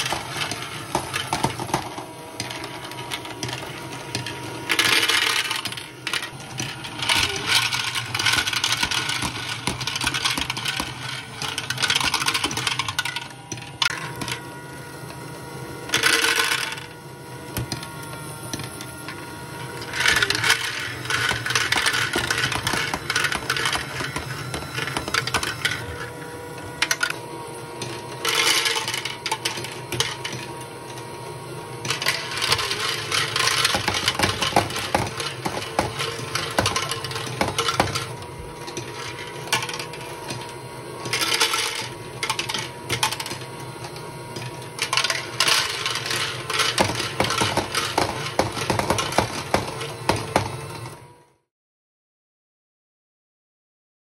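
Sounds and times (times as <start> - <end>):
plastic balls rattling: 0.0 - 14.4, 15.9 - 16.9, 17.6 - 27.2, 27.8 - 30.6, 31.8 - 50.4
plastic gear drive whirring: 0.0 - 51.3.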